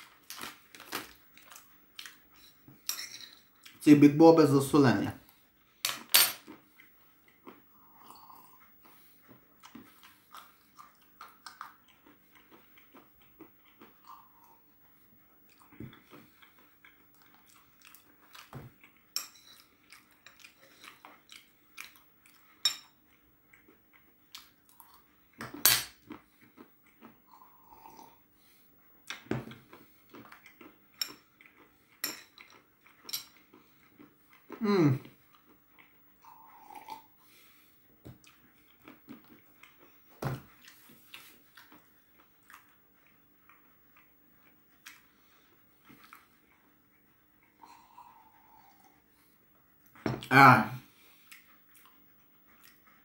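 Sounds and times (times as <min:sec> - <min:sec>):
person chewing crunchy peanuts: 0:00.0 - 0:03.8, 0:05.9 - 0:46.7.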